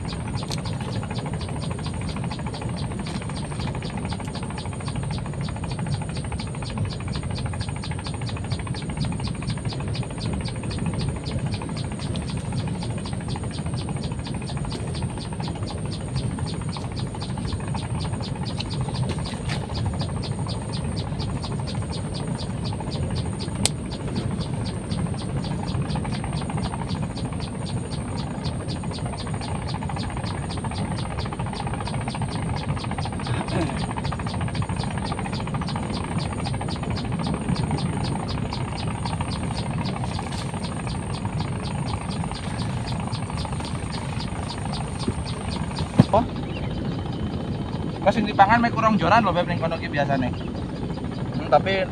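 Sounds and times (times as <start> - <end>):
insects chirping: 0.0 - 51.9
low steady rumble: 0.0 - 51.9.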